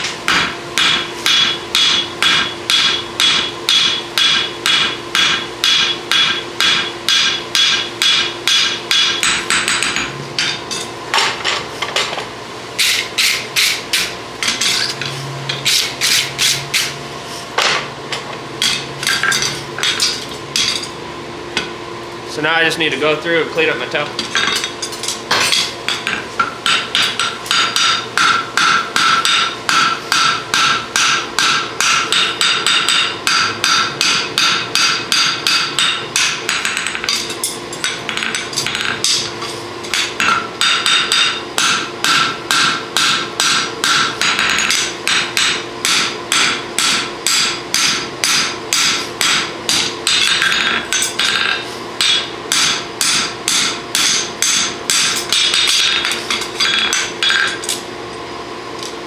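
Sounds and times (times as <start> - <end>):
hammer striking steel on anvil: 0.0 - 12.1, 12.8 - 17.0, 18.6 - 21.0, 24.2 - 57.8.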